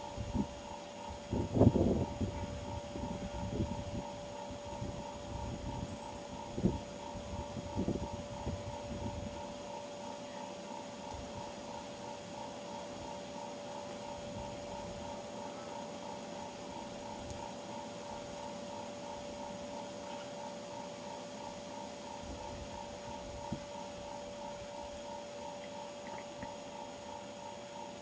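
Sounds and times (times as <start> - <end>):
faint pulsing tone: 0.0 - 28.0
steady hum with high whine: 0.0 - 28.0.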